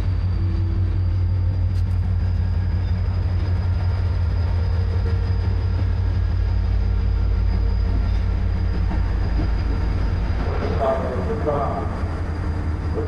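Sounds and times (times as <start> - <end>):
passenger train rumbling past: 0.0 - 13.0.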